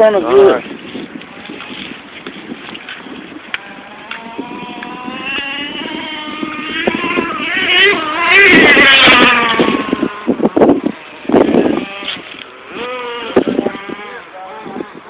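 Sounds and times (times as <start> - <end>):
high-pitched nitro engine: 1.2 - 15.0.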